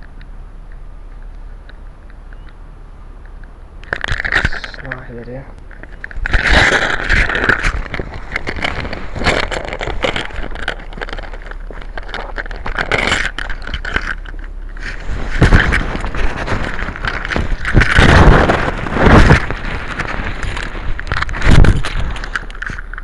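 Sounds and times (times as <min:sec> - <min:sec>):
background rumble: 0:00.0 - 0:23.0
microphone handling noise: 0:00.0 - 0:23.0.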